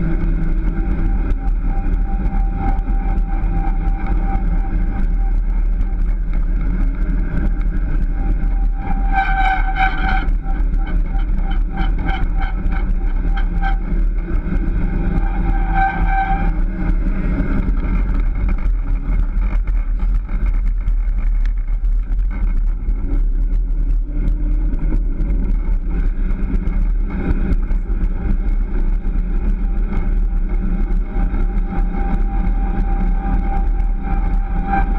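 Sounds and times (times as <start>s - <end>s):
low hum: 0.0s - 34.9s
wheels rolling on pavement: 0.0s - 34.9s
whine: 0.0s - 34.9s.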